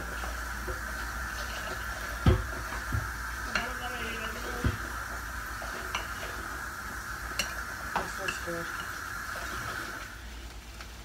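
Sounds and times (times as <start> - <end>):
utensil mixing salad: 0.0 - 11.0.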